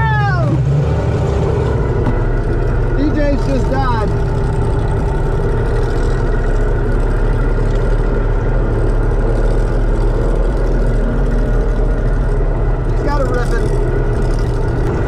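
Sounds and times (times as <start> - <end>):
outboard engine running: 0.0 - 15.0.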